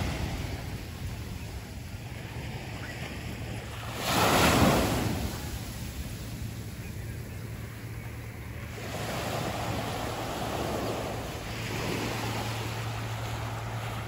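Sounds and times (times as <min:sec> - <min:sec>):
low steady hum: 0:00.0 - 0:14.0
waves washing onto sandy beach: 0:00.0 - 0:14.0.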